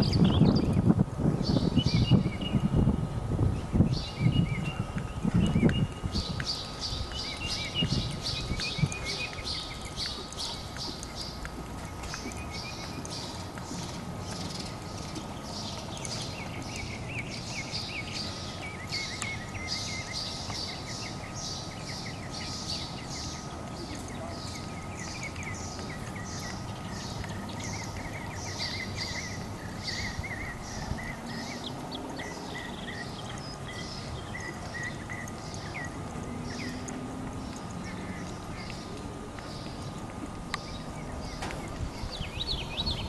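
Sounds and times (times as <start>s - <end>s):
lower bird twittering: 0.0s - 0.8s, 1.4s - 2.8s, 3.5s - 43.0s
low steady rumble: 0.0s - 43.0s.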